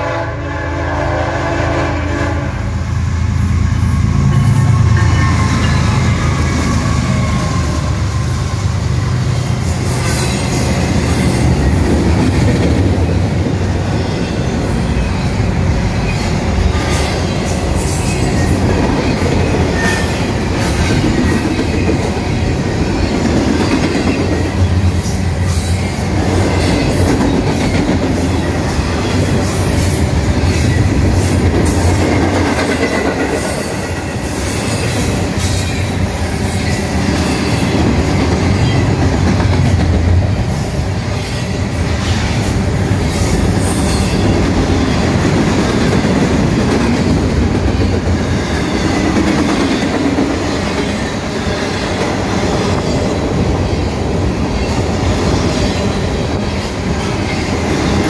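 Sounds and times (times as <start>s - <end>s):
diesel locomotive engines running: 0.0s - 58.0s
train wheels rumbling: 0.0s - 58.0s.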